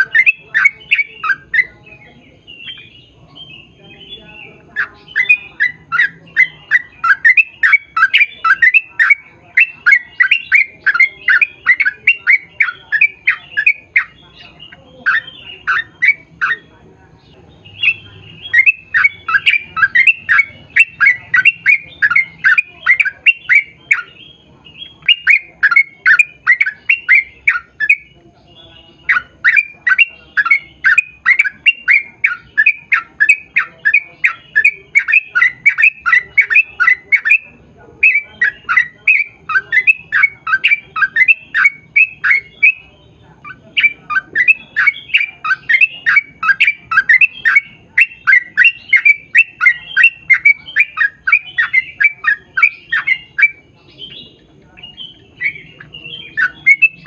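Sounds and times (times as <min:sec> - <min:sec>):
bulbul singing rapid notes: 0:00.0 - 0:57.0.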